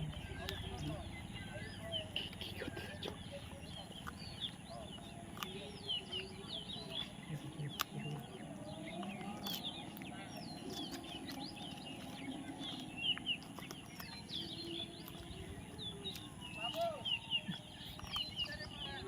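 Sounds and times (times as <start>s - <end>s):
birds chirping: 0.0s - 19.0s
sharp clicks: 0.1s - 19.0s.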